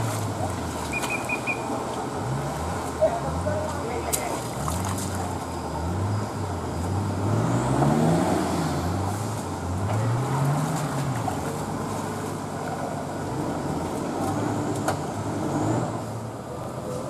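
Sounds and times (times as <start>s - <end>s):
car engine revving: 1.5s - 16.9s.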